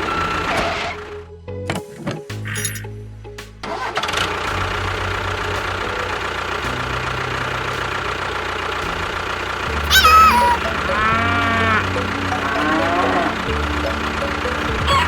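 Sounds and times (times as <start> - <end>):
tractor engine running: 2.5 - 15.0.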